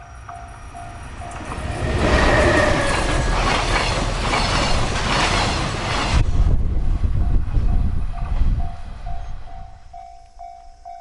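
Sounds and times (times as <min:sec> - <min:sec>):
wheels clattering on rails: 0:00.0 - 0:09.3
electric locomotive passing: 0:00.0 - 0:11.0.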